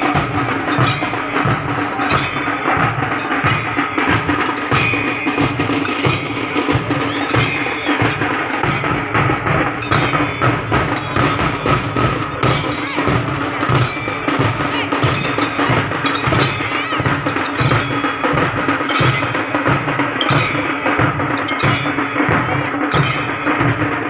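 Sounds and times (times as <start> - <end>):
barrel drums beating: 0.0 - 24.0
stick or cymbal strikes: 0.0 - 24.0.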